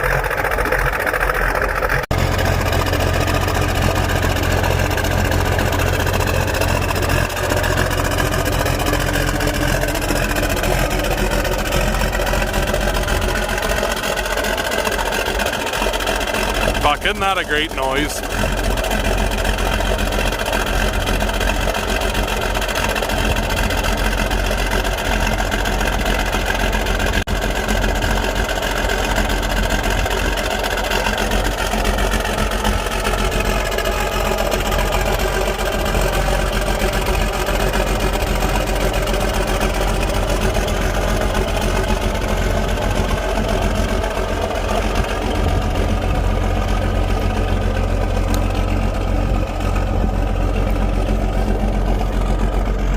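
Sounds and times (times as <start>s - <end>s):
large vehicle engine running: 0.0s - 52.9s.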